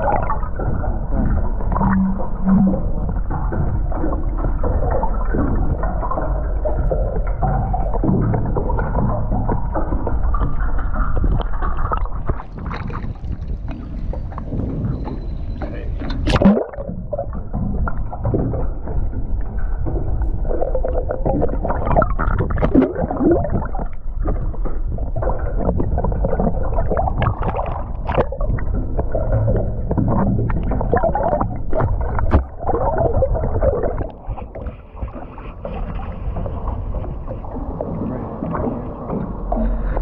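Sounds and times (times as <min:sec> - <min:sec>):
knocks and bumps on boat: 0:00.0 - 0:40.0
water sloshing around boat: 0:00.0 - 0:40.0.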